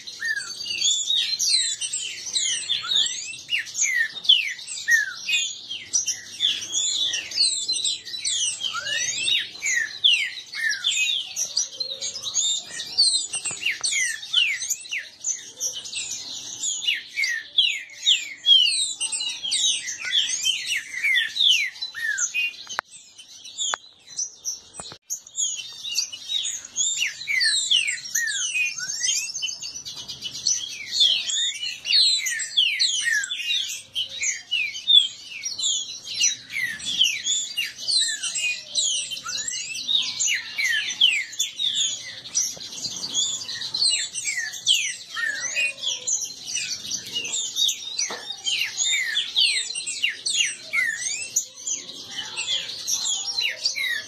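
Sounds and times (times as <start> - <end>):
birds singing rapid whistled phrases: 0.0 - 54.0.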